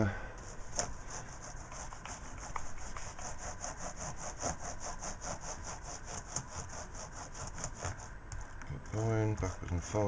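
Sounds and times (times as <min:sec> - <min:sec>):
brush scrubbing laptop keyboard: 0:00.4 - 0:08.2, 0:08.9 - 0:10.0.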